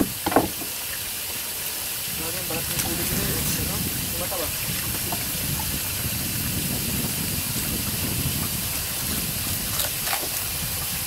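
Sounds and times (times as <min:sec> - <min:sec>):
water hissing from a hose: 0:00.0 - 0:11.0.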